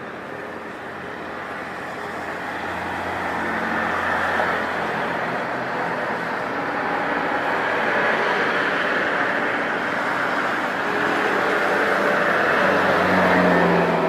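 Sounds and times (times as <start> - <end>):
airliner engine noise: 0.0 - 14.0.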